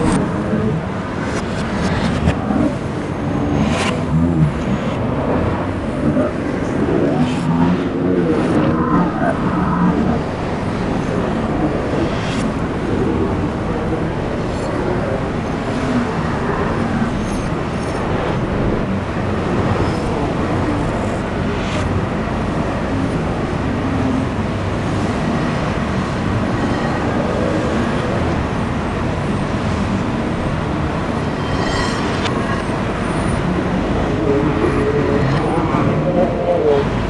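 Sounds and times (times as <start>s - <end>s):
busy indoor market ambience: 0.0s - 37.0s.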